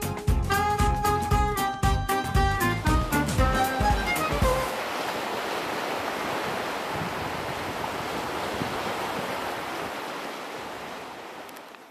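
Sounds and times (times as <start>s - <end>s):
sea waves rushing: 2.2s - 11.9s.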